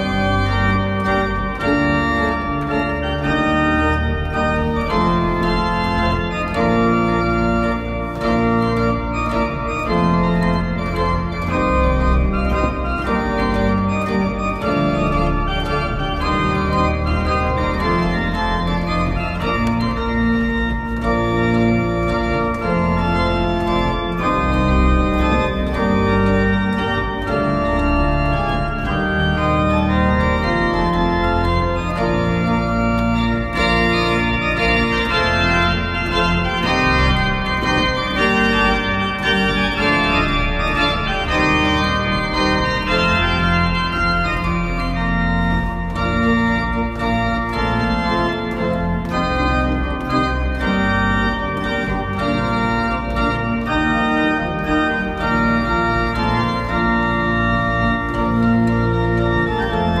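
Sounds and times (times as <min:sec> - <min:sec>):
organ chords: 0:00.0 - 1:00.0.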